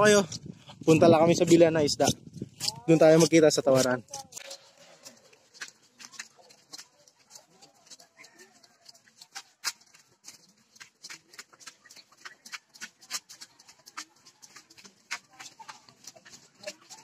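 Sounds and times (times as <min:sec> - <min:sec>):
footsteps in flip-flops: 0:00.0 - 0:17.0.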